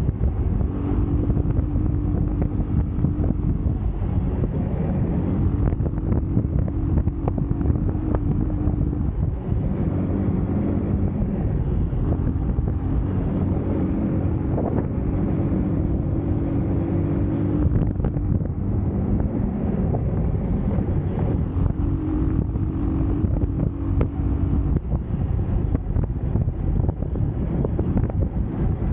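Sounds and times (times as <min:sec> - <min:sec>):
motorcycle engine running: 0:00.0 - 0:28.9
wind buffeting microphone: 0:00.0 - 0:28.9.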